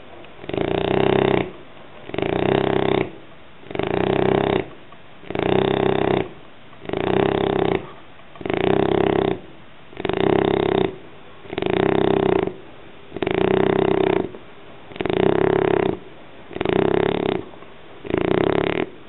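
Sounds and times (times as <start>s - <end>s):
dog breathing: 0.0s - 19.0s
dog snoring: 0.4s - 19.0s.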